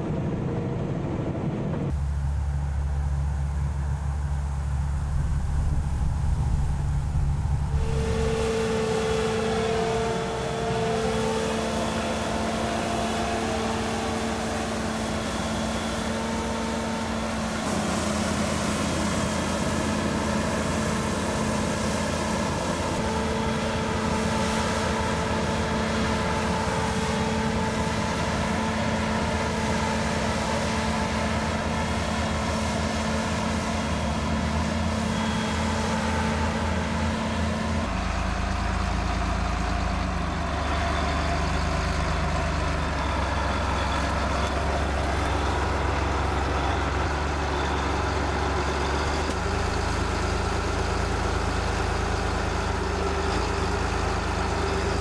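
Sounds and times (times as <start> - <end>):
combine harvester and tractor droning: 0.0 - 55.0.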